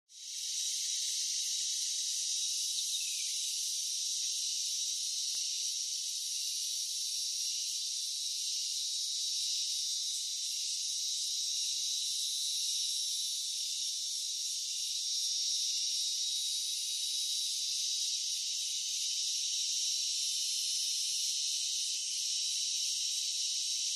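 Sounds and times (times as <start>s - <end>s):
high-pitched insects chorus: 0.1s - 23.9s.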